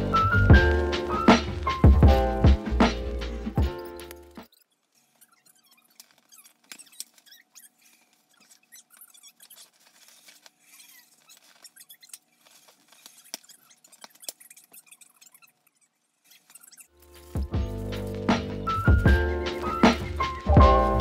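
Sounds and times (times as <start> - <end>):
paper and tissue rustling: 3.2 - 21.0.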